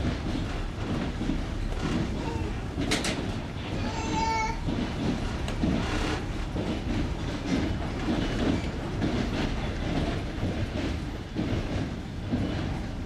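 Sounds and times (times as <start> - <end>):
rumble of carriage on track: 0.0 - 13.0
train wheels clattering over rail joints: 0.0 - 13.0.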